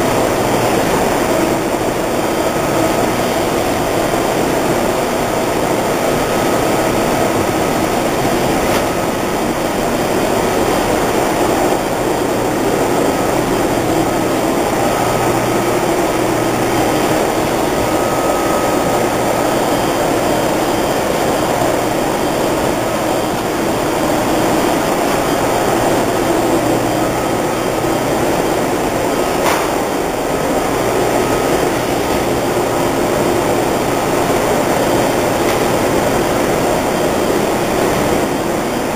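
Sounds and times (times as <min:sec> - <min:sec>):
printing press whirring: 0:00.0 - 0:38.9.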